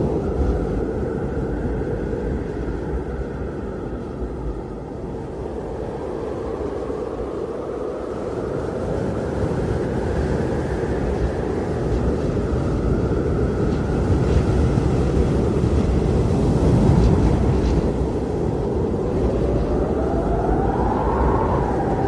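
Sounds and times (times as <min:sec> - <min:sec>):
blizzard wind roaring: 0:00.0 - 0:22.0
faint wind whistling: 0:00.0 - 0:22.0.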